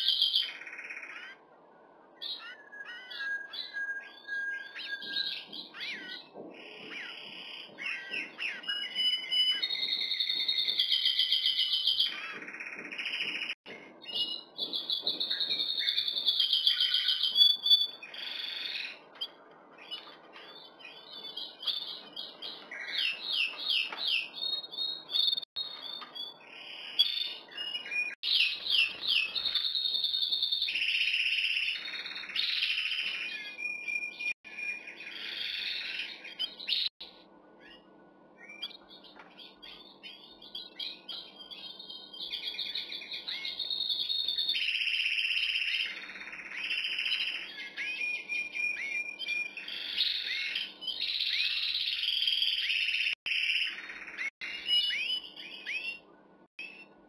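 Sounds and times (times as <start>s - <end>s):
canary singing trills: 0.0s - 1.5s, 2.2s - 36.9s, 37.5s - 57.0s.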